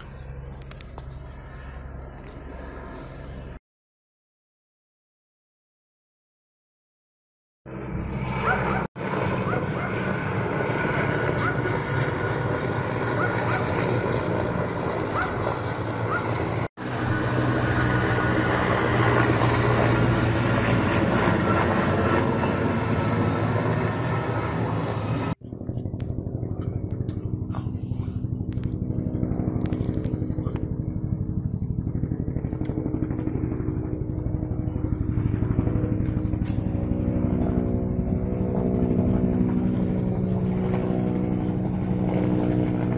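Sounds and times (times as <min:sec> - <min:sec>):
helicopter rotor and engine: 0:00.0 - 0:03.6, 0:07.7 - 0:42.9.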